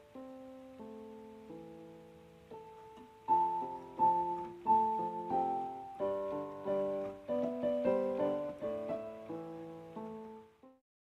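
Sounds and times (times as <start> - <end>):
piano music: 0.0 - 10.8.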